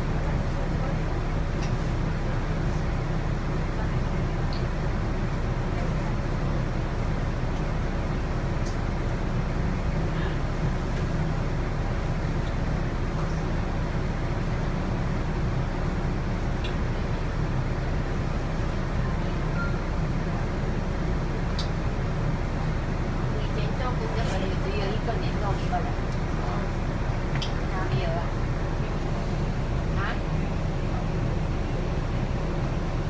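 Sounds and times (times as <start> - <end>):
bus diesel engine hum: 0.0 - 33.0.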